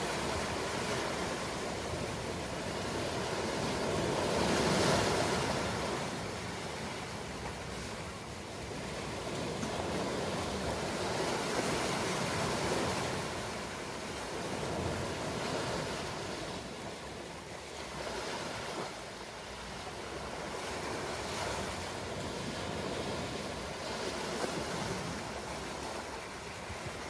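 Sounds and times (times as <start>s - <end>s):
ocean waves washing: 0.0s - 27.0s.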